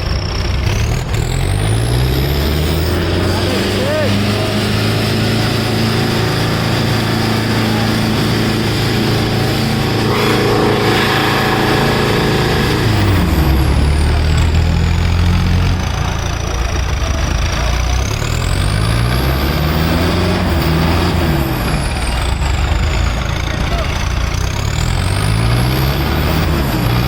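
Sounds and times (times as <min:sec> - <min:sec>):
tractor diesel engines labouring: 0:00.0 - 0:27.0.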